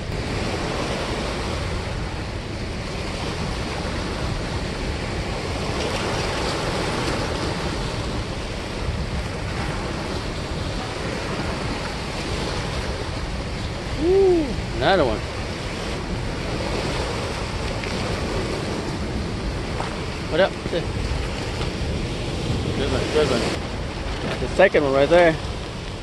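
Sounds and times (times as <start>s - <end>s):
water rushing through spillway: 0.0s - 26.0s.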